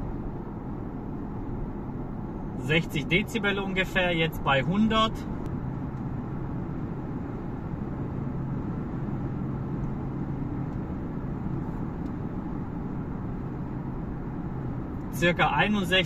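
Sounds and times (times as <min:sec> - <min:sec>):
low hum: 0:00.0 - 0:15.2
road and wind noise: 0:00.0 - 0:16.0.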